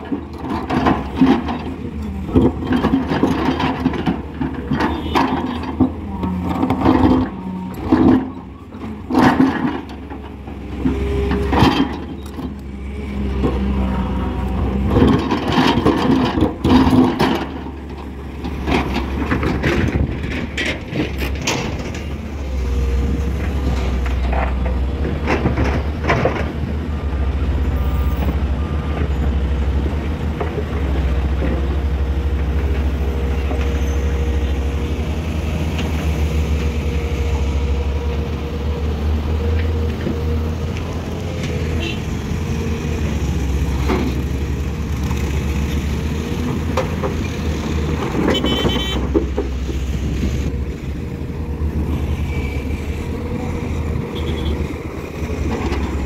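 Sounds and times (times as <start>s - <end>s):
diesel engines running under load: 0.0s - 56.0s.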